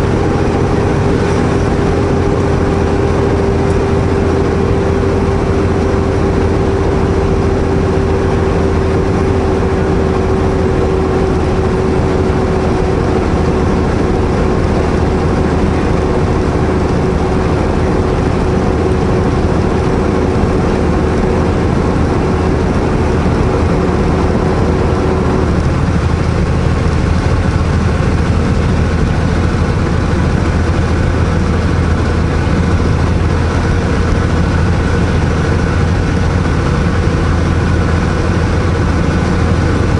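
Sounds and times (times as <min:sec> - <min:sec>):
diesel truck engine drone: 0:00.0 - 0:39.9
engine whine: 0:00.0 - 0:39.9.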